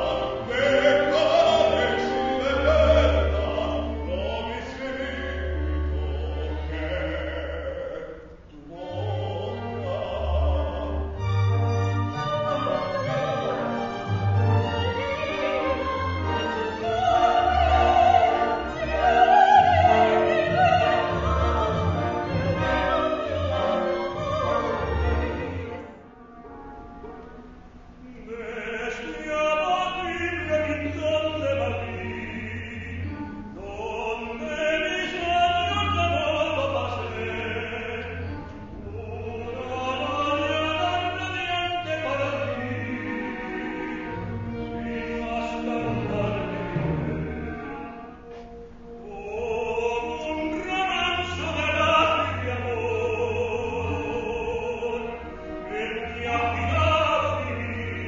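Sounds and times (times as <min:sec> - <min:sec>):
man singing operatically: 0:00.0 - 0:11.4, 0:15.1 - 0:25.8, 0:28.0 - 0:48.1, 0:49.0 - 0:58.0
orchestral accompaniment: 0:00.0 - 0:58.0.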